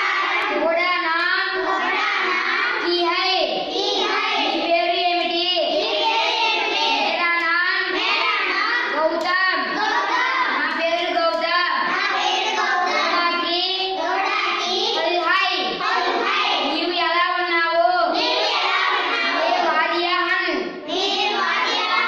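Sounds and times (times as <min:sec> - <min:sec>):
children chanting in chorus: 0:00.0 - 0:22.0.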